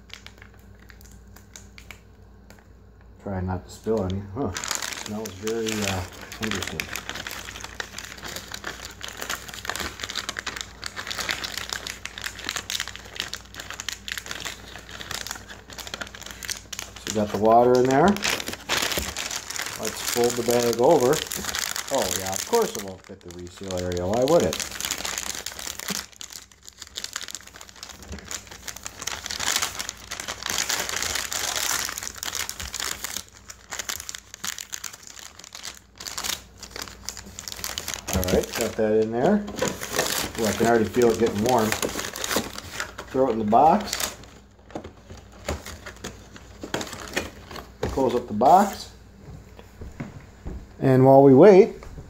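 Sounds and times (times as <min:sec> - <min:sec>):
plastic bag crinkling: 0:00.0 - 0:02.6, 0:03.8 - 0:48.8.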